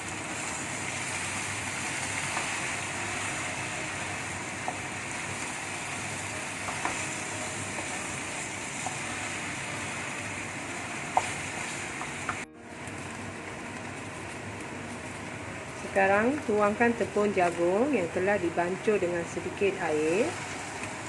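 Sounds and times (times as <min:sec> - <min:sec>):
noodles and egg sizzling in a pan: 0:00.0 - 0:21.0.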